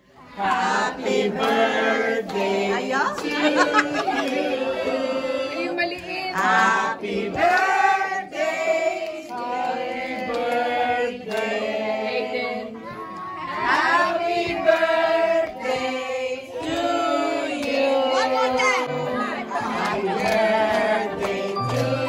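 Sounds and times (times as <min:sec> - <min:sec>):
children and adults singing: 0:00.1 - 0:22.0.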